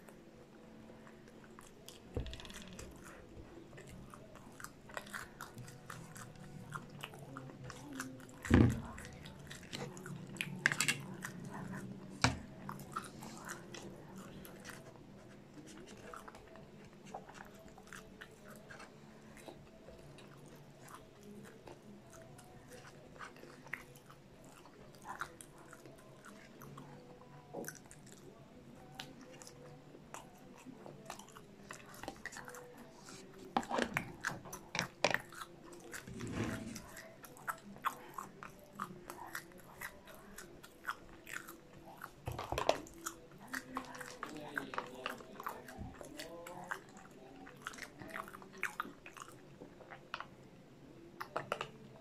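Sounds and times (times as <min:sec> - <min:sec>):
person chewing: 0:02.6 - 0:50.3.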